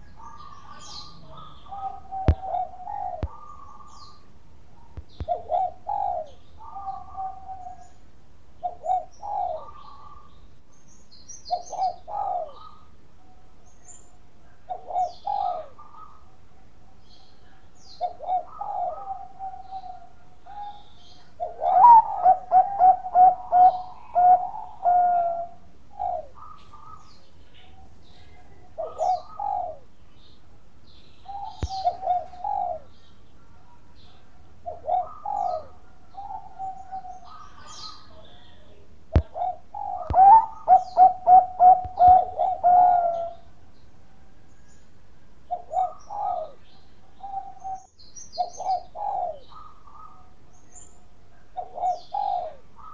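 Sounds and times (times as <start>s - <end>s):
dove cooing: 0.0s - 10.5s, 11.4s - 52.9s.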